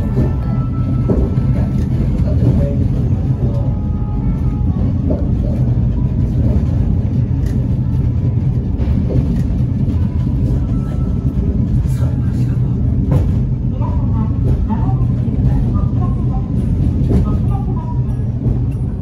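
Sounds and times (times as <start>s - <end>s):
funicular car rumbling: 0.0s - 19.0s.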